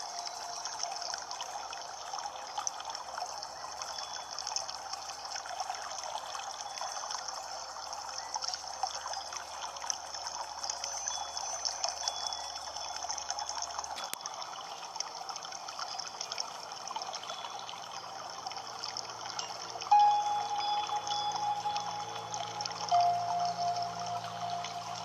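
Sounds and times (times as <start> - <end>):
stream water babbling: 0.0 - 25.0.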